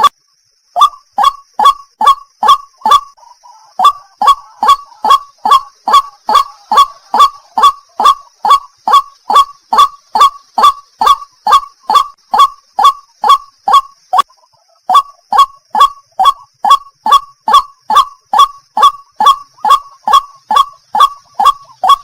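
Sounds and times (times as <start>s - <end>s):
waterhen calling: 0.8s - 22.0s.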